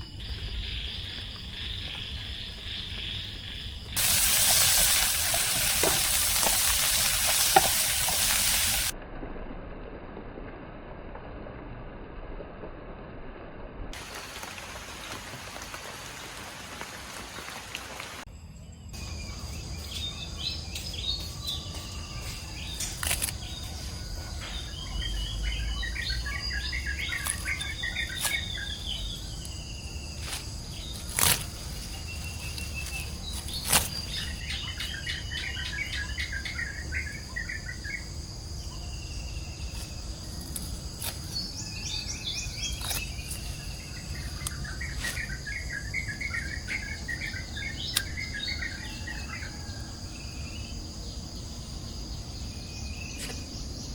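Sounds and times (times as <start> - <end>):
high-pitched insect chorus: 0.0 - 8.9, 14.0 - 53.9.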